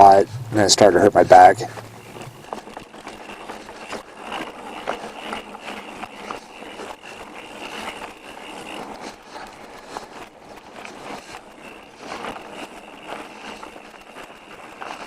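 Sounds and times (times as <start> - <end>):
bike rattling over bumps: 0.0 - 15.0
bike tyres rolling over dirt: 0.0 - 15.0.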